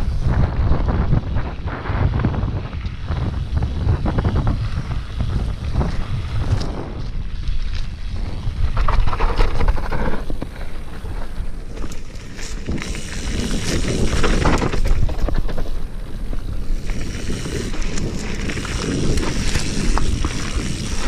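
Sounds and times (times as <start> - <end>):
bike rattles and clicks: 0.0 - 21.0
low rumble of bike riding: 0.0 - 21.0
wind buffeting microphone: 0.0 - 21.0.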